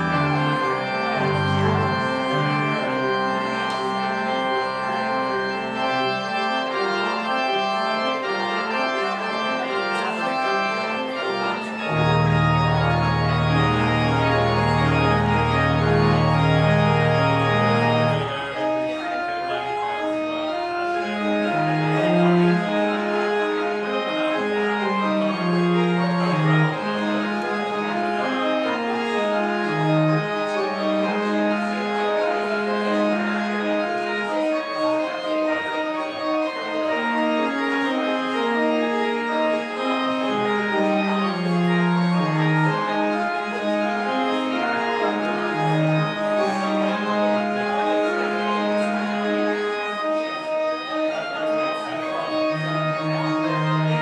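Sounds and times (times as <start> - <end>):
church organ playing chords: 0.0 - 54.0.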